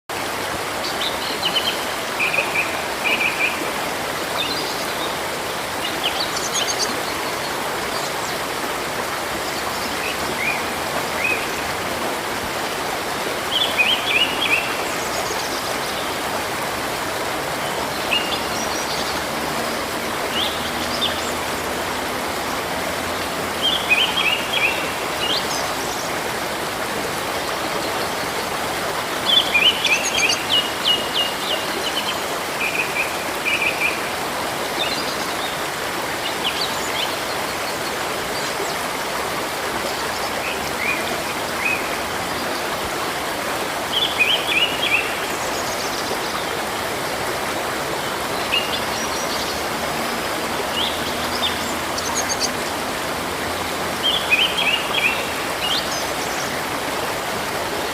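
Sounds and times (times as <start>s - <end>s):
stream rushing: 0.1s - 57.9s
songbirds chirping: 0.4s - 57.9s.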